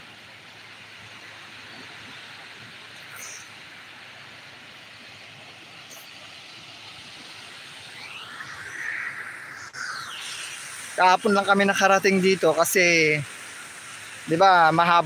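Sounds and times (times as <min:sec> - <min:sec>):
small waves breaking on a beach: 0:00.0 - 0:15.0.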